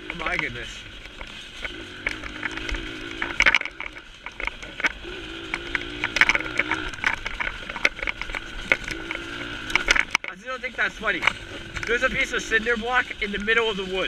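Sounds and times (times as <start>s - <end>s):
short clicks and rattles: 0.0s - 13.6s
dirt bike engine running: 0.0s - 14.0s.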